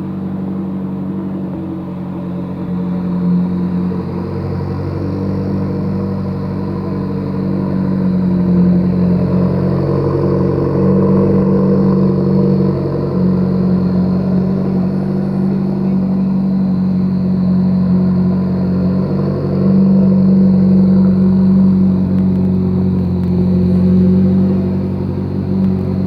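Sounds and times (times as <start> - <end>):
car engine idling high: 0.0 - 26.0
faint high turbo whistle: 0.0 - 26.0.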